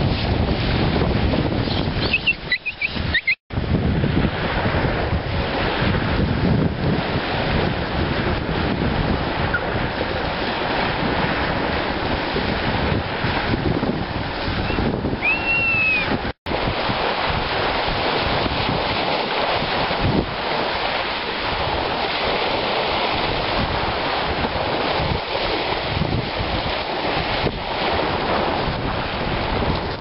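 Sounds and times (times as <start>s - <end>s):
waves washing onto shingle: 0.0s - 2.0s, 3.0s - 30.0s
wind buffeting microphone: 0.0s - 30.0s.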